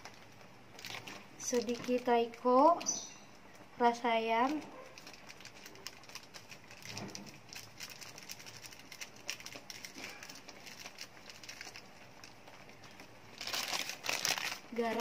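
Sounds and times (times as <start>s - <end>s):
food crackling in a wok: 0.0s - 15.0s.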